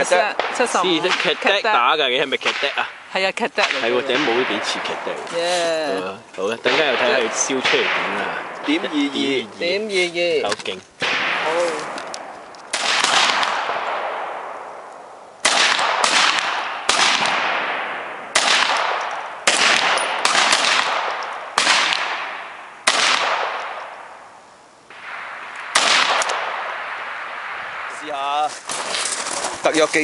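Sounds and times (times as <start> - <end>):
pistol shots echoing: 0.0 - 3.0, 3.6 - 5.3, 6.6 - 9.0, 11.0 - 24.3, 24.9 - 29.0.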